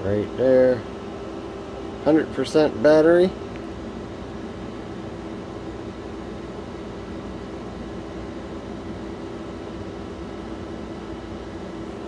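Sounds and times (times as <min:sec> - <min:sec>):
air conditioner fan rush: 0:00.0 - 0:12.0
low steady hum: 0:00.0 - 0:12.0.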